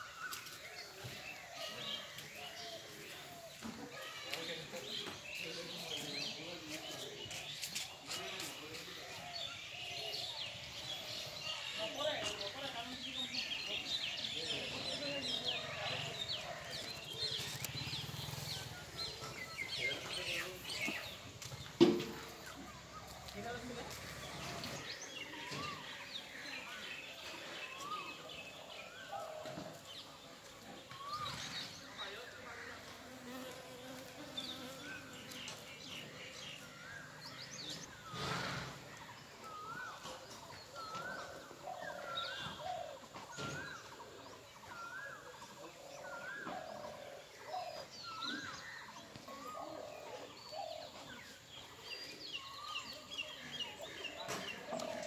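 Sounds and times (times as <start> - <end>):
birds chirping high: 0.0 - 55.0.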